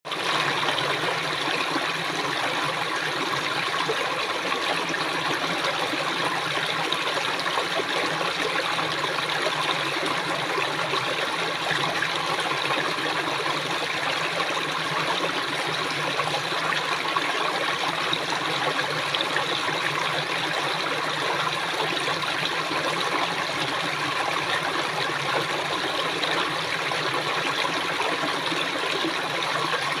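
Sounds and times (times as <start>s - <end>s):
stream water flowing: 0.1s - 30.0s.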